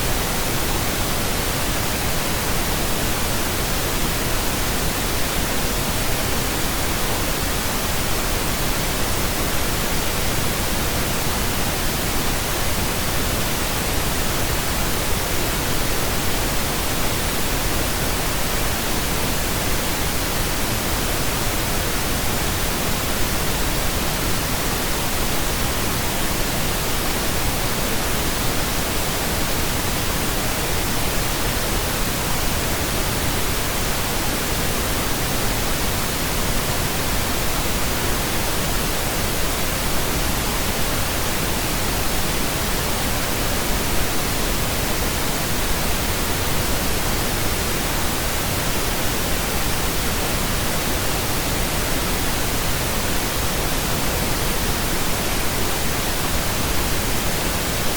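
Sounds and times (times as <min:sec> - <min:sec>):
pink noise hiss: 0:00.0 - 0:57.9.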